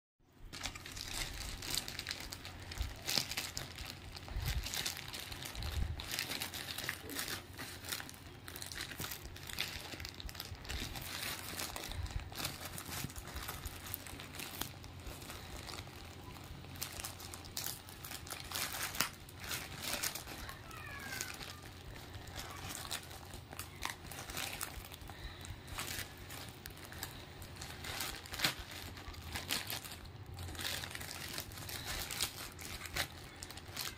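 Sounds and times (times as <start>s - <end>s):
plastic mailer bag crinkling: 0.4s - 33.9s.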